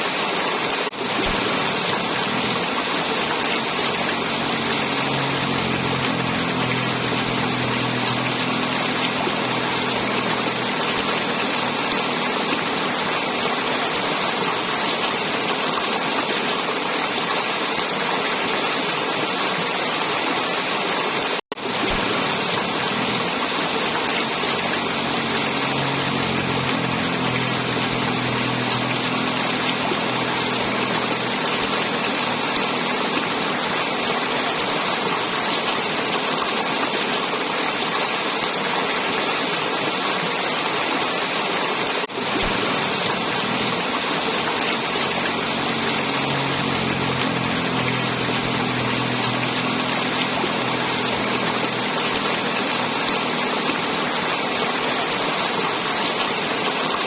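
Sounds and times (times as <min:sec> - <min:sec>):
river water flowing and gurgling: 0:00.0 - 0:57.0.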